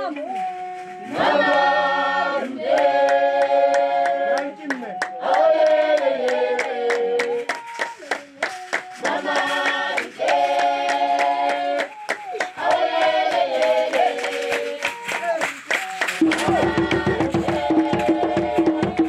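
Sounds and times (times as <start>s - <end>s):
group of voices singing: 0.0s - 19.0s
steady hand clapping: 2.6s - 19.0s.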